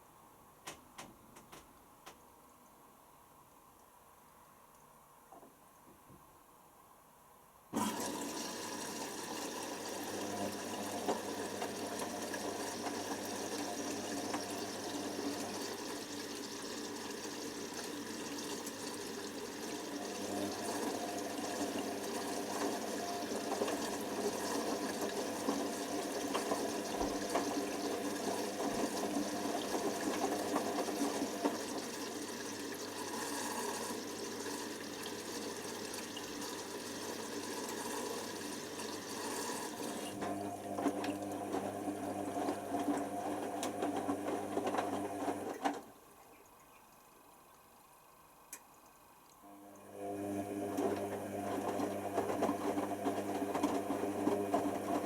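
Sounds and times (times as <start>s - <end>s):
washer dryer mechanical hum: 0.0s - 55.0s.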